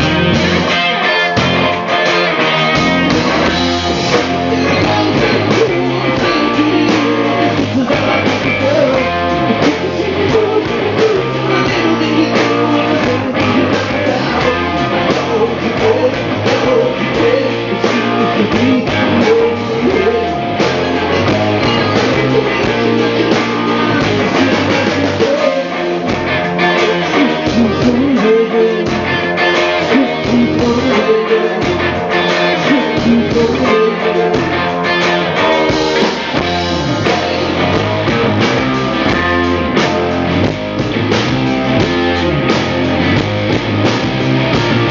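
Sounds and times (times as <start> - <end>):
live rock band playing: 0.0 - 44.9
person singing: 2.0 - 40.1.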